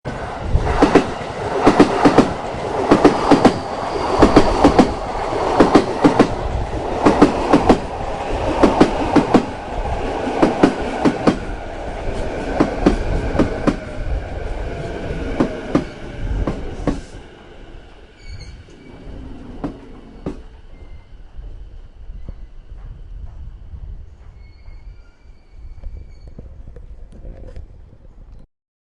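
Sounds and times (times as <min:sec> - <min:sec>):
train running rumble: 0:00.1 - 0:25.1.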